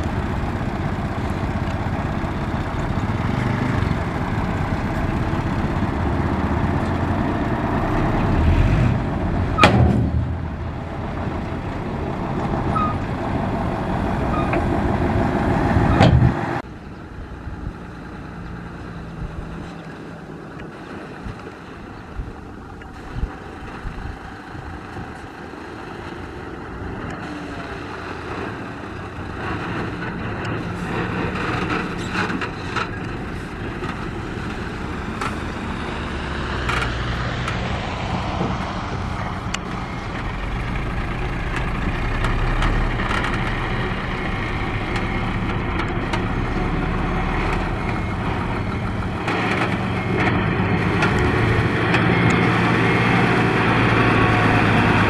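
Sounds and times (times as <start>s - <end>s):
dump truck diesel engine running: 0.0s - 55.0s
low engine hum: 0.0s - 55.0s.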